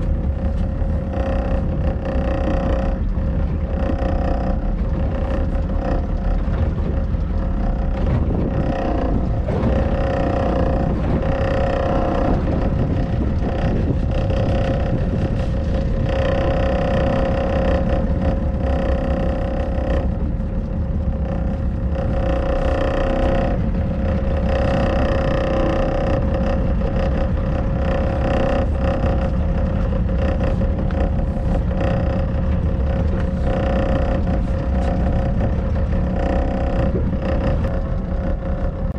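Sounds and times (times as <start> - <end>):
boat engine rumbling: 0.0 - 38.9.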